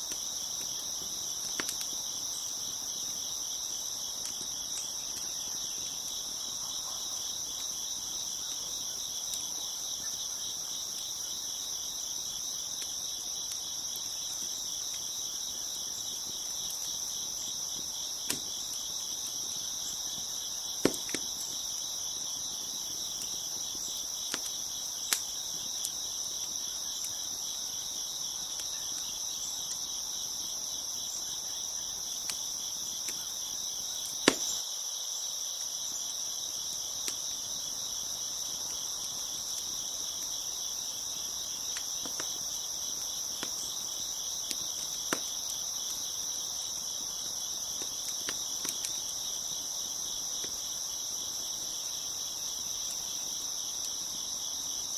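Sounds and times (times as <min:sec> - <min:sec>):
wood fire crackling and popping: 0:00.0 - 0:34.6, 0:36.5 - 0:54.9
crickets chirping: 0:00.0 - 0:54.9.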